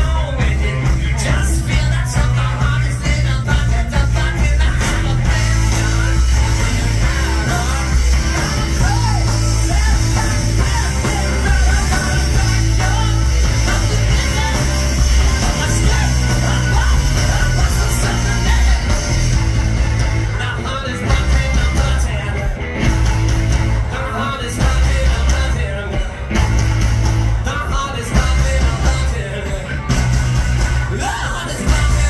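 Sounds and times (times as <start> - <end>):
man singing: 0.0 - 19.4, 20.2 - 22.9, 23.8 - 26.4, 27.4 - 30.1, 30.8 - 32.0
live rock band playing: 0.0 - 32.0.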